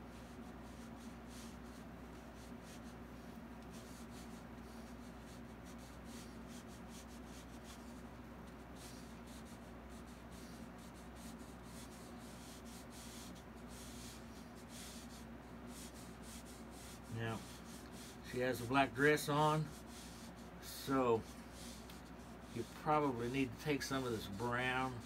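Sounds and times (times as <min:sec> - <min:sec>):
paintbrush strokes on canvas: 0:00.0 - 0:25.0
steady low hum: 0:00.0 - 0:25.0.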